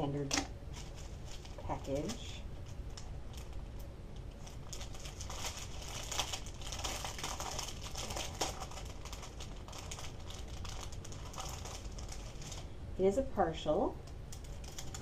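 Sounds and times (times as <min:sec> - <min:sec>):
plastic bags crinkling: 0:00.0 - 0:12.7, 0:14.3 - 0:15.0.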